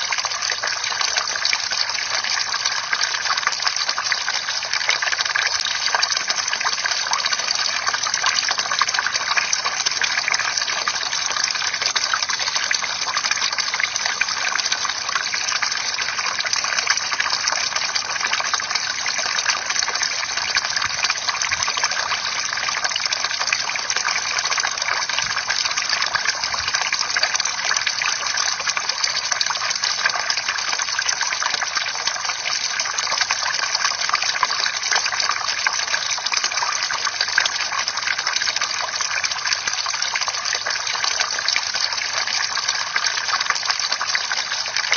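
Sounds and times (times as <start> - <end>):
water pouring and splashing: 0.0 - 44.9.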